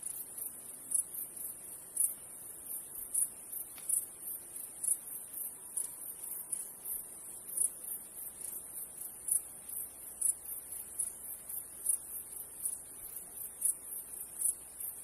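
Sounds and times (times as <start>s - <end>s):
insects chirping trill: 0.0s - 15.0s.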